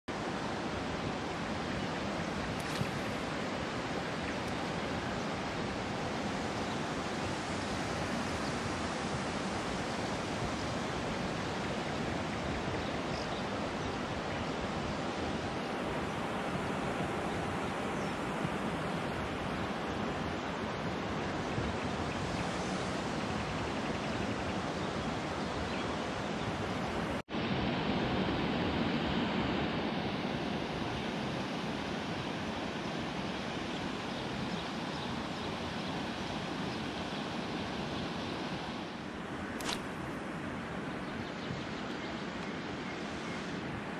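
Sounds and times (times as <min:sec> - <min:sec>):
river water rushing: 0:00.1 - 0:43.9.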